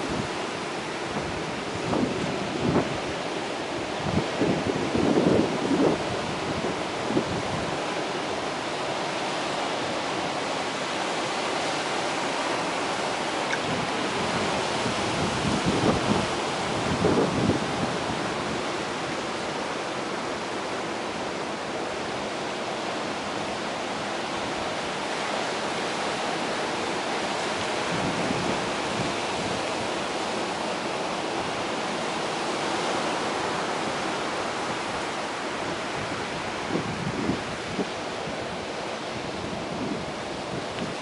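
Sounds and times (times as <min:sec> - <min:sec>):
surf on rocky shore: 0:00.0 - 0:41.0.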